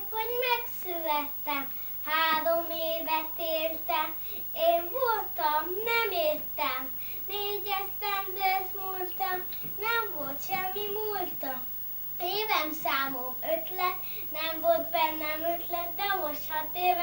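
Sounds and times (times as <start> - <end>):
young child singing: 0.0 - 17.0.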